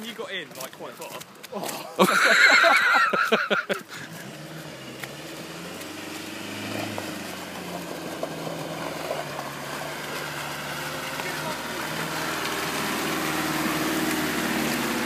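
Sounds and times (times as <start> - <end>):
off-road vehicle engine in mud: 0.0 - 15.0.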